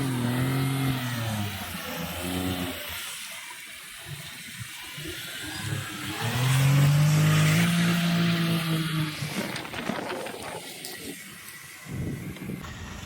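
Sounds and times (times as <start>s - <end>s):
small car engine revving: 0.0s - 13.0s.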